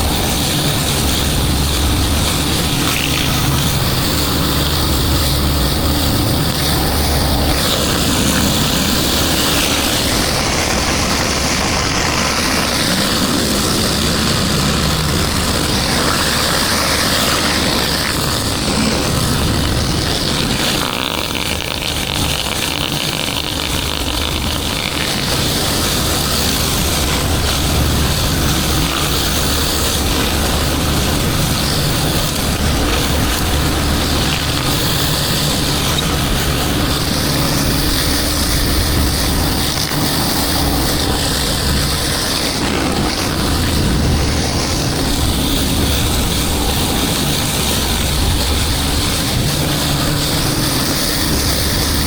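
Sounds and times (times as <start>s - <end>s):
high-pressure water spray hissing: 0.0s - 52.0s
pressure washer engine running: 0.0s - 52.0s.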